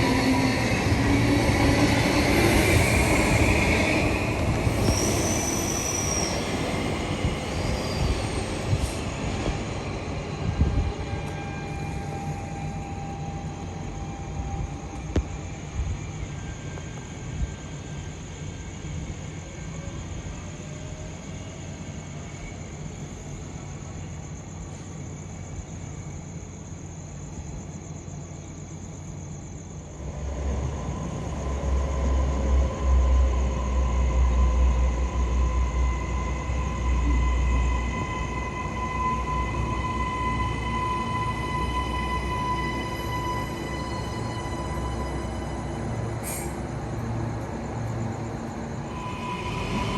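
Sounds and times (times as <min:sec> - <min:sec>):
train passing with deep rumble: 0:00.0 - 0:49.9.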